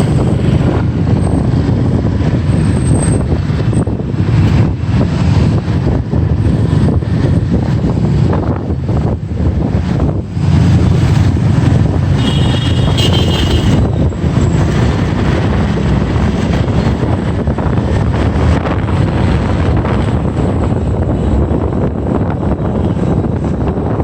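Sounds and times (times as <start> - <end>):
low rumble of engines: 0.0 - 24.0
street traffic: 0.0 - 24.0
wind buffeting microphone: 0.0 - 24.0.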